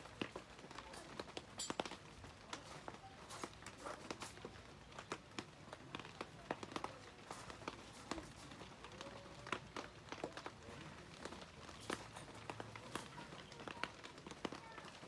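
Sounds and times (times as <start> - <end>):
raindrops tapping: 0.0 - 15.0.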